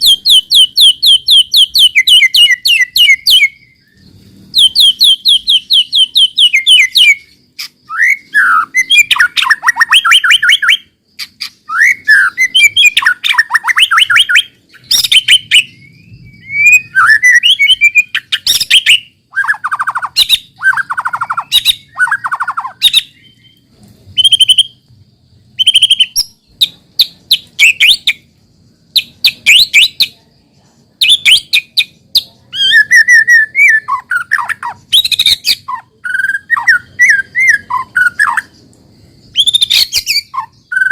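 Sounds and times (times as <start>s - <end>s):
bird singing trills and whistles: 0.0s - 30.4s, 31.0s - 40.9s.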